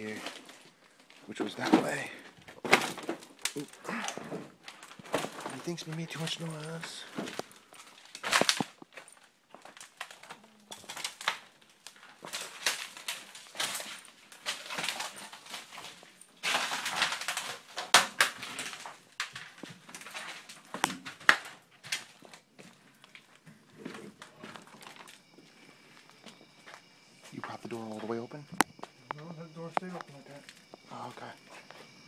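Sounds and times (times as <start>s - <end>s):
crunching footsteps: 0.0s - 32.0s.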